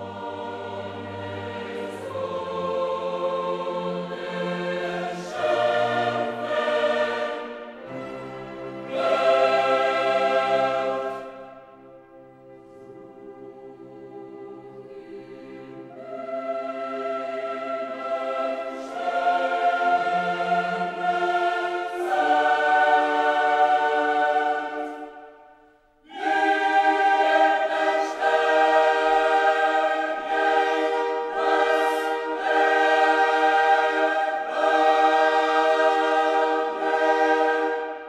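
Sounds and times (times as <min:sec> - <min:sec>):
choir singing held chords: 0:00.0 - 0:38.0.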